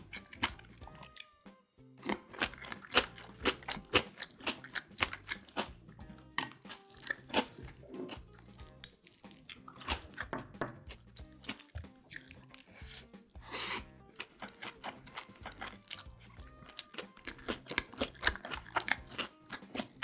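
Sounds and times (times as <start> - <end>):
crunchy food chewing: 0.0 - 1.4, 2.0 - 13.0, 14.1 - 20.0
quiet background music: 0.0 - 20.0.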